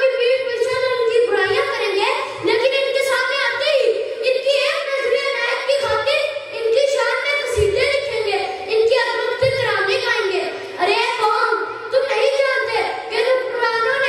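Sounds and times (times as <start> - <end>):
boy declaiming into a microphone: 0.0 - 14.0.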